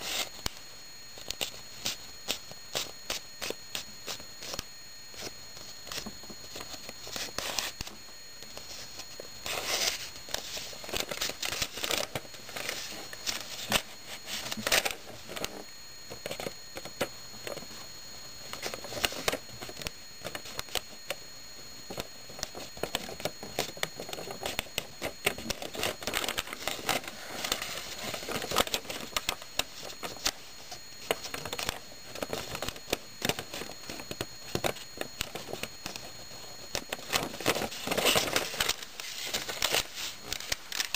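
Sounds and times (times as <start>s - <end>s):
paper rustling and crinkling: 5.2s - 17.8s, 18.4s - 20.9s, 21.9s - 40.9s.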